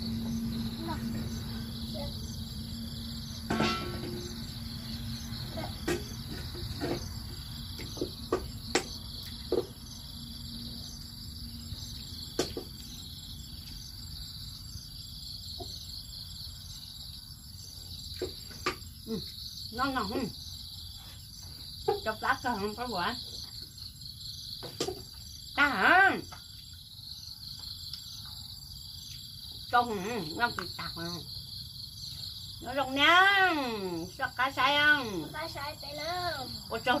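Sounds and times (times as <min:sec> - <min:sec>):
crickets and insects chirring: 0:00.0 - 0:37.0.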